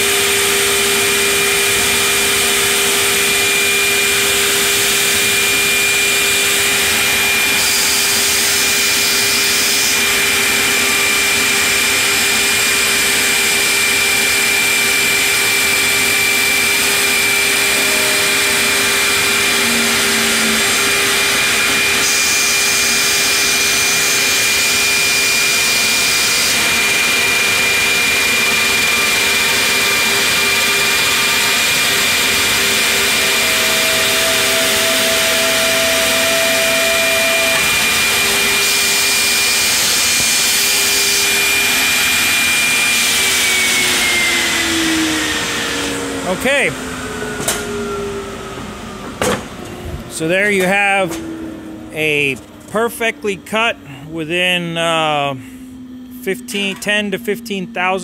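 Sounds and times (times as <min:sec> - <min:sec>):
dust extraction rushing: 0:00.0 - 0:47.2
router spindle whining: 0:00.0 - 0:58.0.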